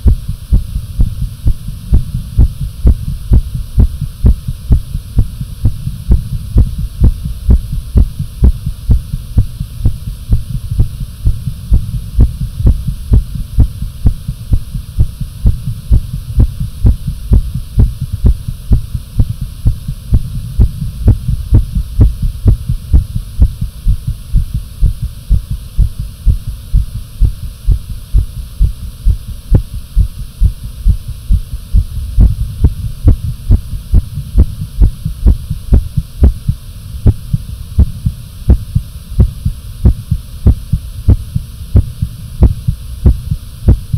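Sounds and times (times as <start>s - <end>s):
heartbeat thumps: 0.0s - 43.9s
steady low hum: 0.0s - 43.9s.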